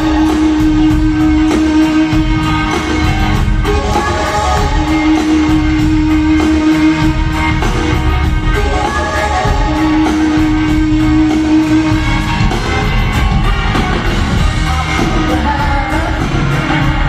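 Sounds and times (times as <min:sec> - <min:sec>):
live rock band with singing: 0:00.0 - 0:17.0
steady drum beat: 0:00.0 - 0:17.0.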